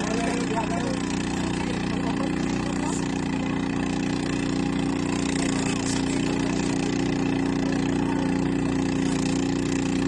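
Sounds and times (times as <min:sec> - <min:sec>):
motor boat engine running: 0:00.0 - 0:10.0.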